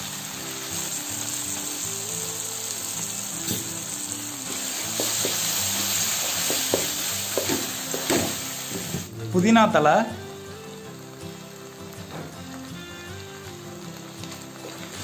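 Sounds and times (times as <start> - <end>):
background music: 0.0 - 15.0
onions sizzling in oil: 0.0 - 15.0.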